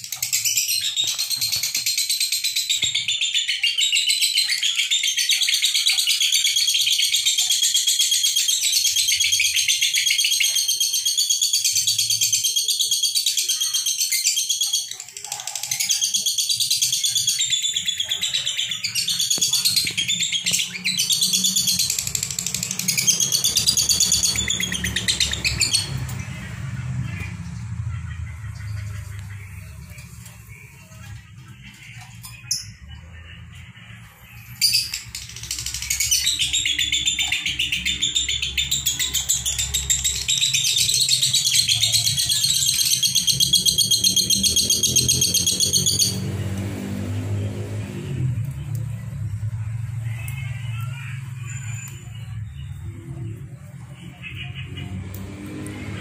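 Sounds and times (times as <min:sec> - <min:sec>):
lovebirds chattering shrilly: 0:00.0 - 0:33.1, 0:33.9 - 0:46.4.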